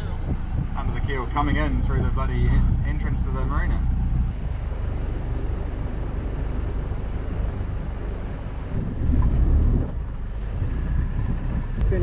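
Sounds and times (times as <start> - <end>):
boat engine running: 0.0 - 12.0
wind rumbling on microphone: 0.0 - 12.0.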